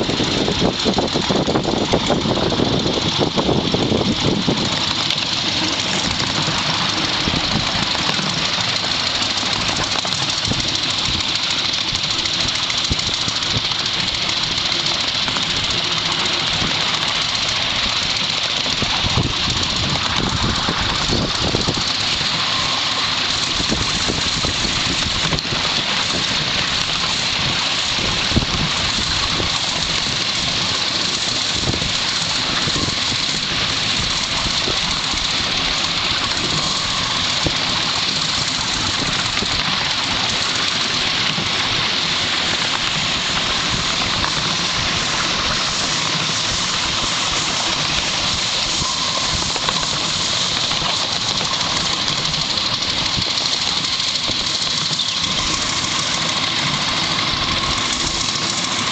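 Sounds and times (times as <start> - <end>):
miniature train running on track: 0.0 - 58.9.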